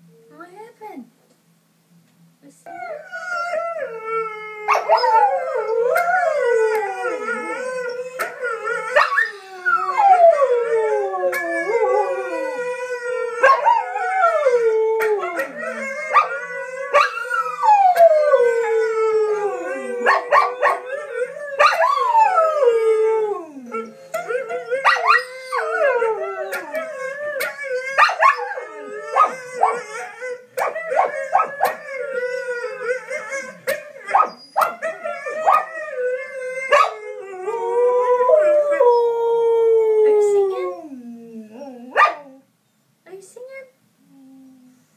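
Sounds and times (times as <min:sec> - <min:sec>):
dogs howling: 0:02.7 - 0:42.4.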